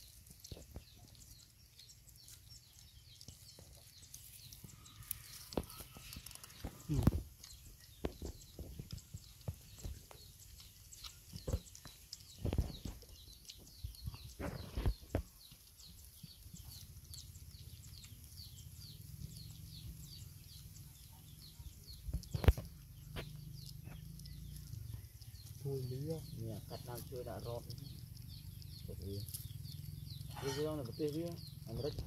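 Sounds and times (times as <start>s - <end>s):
puppies lapping and chewing: 0.0s - 32.0s.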